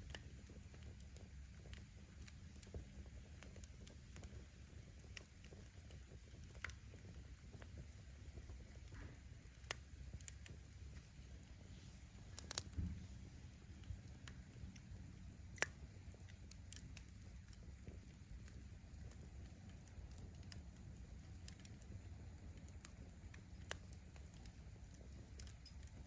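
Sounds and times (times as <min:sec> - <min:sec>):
faint low rumble: 0:00.0 - 0:26.0
wood fire crackling and popping: 0:00.0 - 0:26.0.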